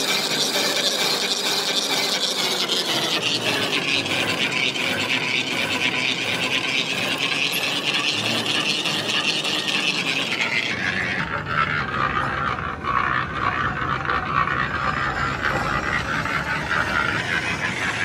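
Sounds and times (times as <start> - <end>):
lathe tool scraping metal: 0.0 - 18.0.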